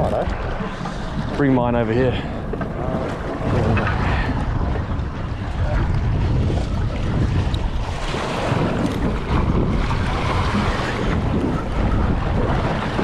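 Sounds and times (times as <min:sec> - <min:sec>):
sea water washing around boat: 0:00.0 - 0:13.0
wind buffeting microphone: 0:00.0 - 0:13.0.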